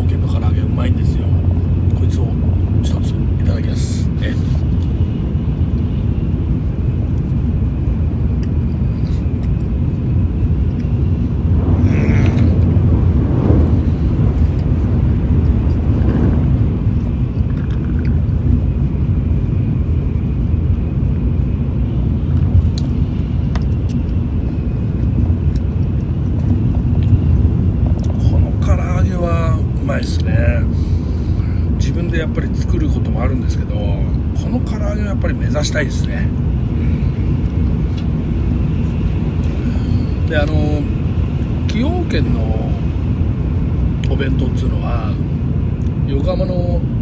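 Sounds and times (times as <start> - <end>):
train rumble inside cabin: 0.0 - 47.0.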